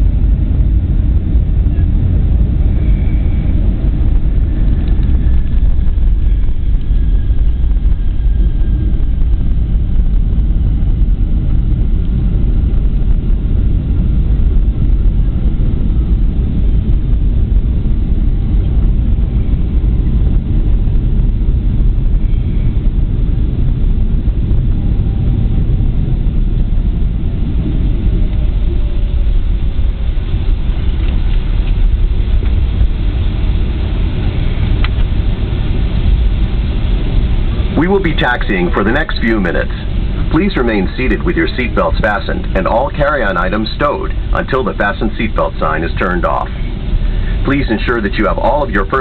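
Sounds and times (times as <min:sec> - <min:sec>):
engines whining down: 0:00.0 - 0:49.0
jet cabin engine rumble: 0:00.0 - 0:49.0.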